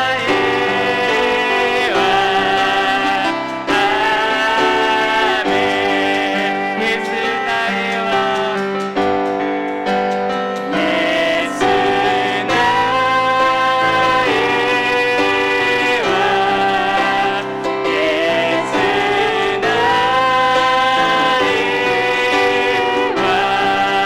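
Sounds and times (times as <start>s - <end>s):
group singing worship song: 0.0s - 24.0s
piano accompaniment: 0.0s - 24.0s.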